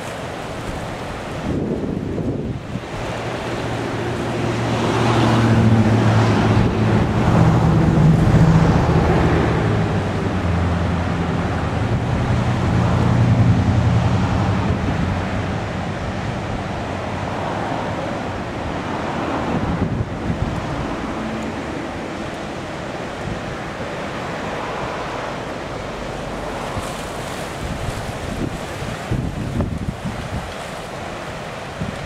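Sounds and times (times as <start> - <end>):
wind buffeting microphone: 0.0 - 32.0
vehicle engine humming: 2.4 - 30.0.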